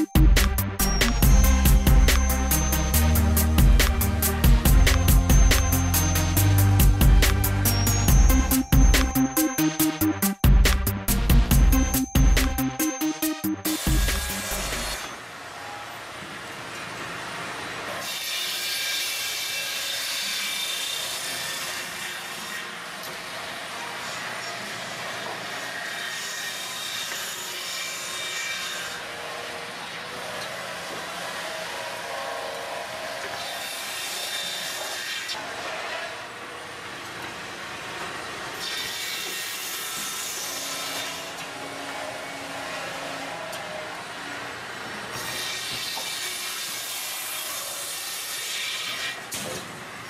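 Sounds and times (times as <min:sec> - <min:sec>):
sawmill saw cutting log: 0:00.4 - 0:08.6, 0:13.6 - 0:15.3, 0:17.2 - 0:49.8.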